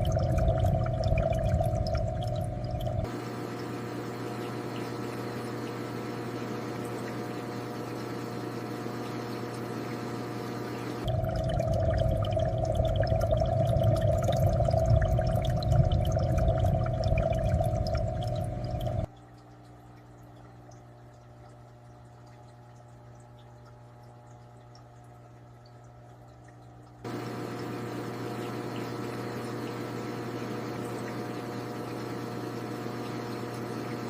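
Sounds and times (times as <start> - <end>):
aquarium water pouring and bubbling: 0.0 - 34.0.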